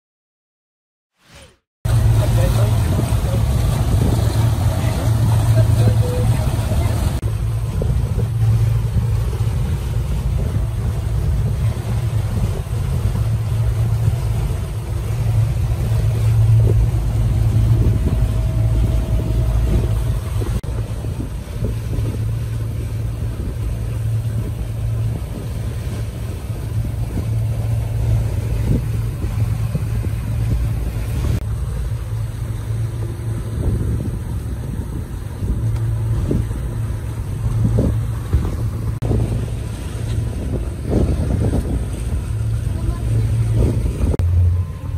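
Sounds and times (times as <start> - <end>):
motorboat engine humming: 1.2 - 44.9.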